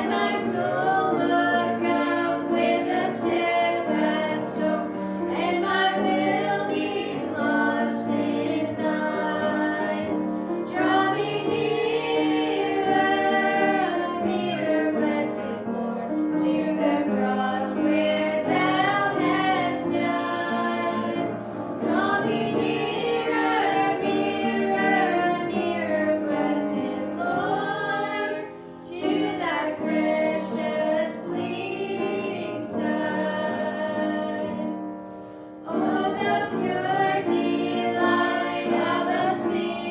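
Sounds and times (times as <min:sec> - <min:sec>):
group singing a gospel song: 0:00.0 - 0:35.0, 0:35.6 - 0:39.9.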